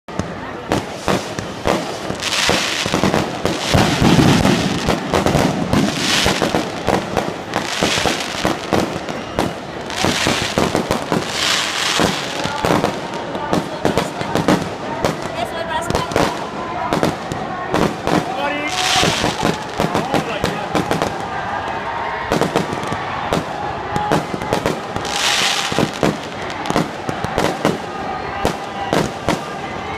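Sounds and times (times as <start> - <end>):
firecrackers cracking and popping: 0.1 - 29.6
firecracker hissing: 0.2 - 21.4, 22.3 - 29.6.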